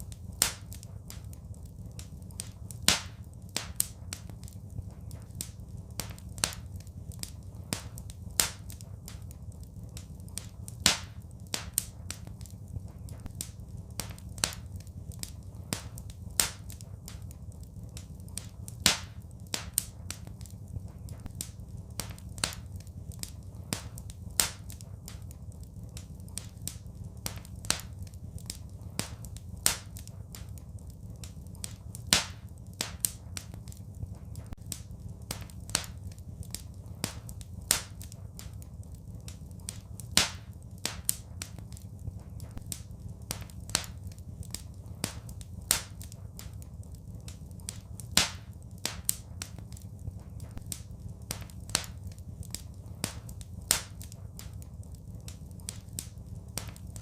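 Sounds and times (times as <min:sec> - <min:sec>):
fire crackling and popping: 0:00.0 - 0:57.0
steady low rumble: 0:00.0 - 0:57.0.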